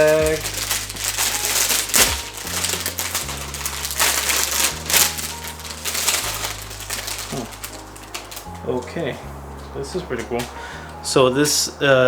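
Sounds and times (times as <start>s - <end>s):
plastic bag crinkling: 0.0s - 11.8s
background music bass line: 0.0s - 12.0s.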